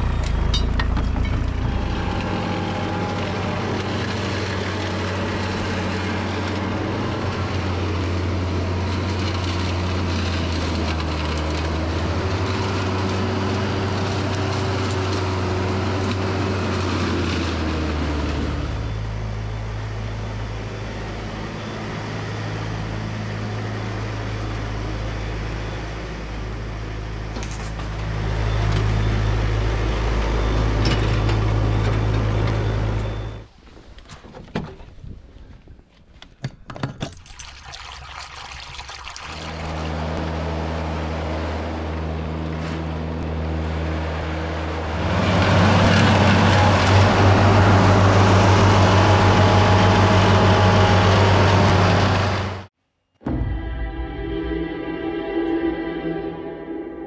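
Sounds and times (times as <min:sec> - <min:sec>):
mower engine running: 0:00.0 - 0:33.3, 0:39.6 - 0:52.7.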